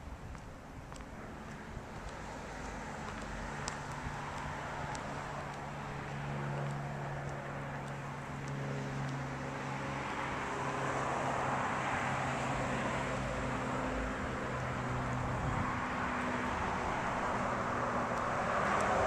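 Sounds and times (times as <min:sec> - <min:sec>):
road traffic: 0:00.0 - 0:19.0
vehicle passing: 0:01.2 - 0:19.0.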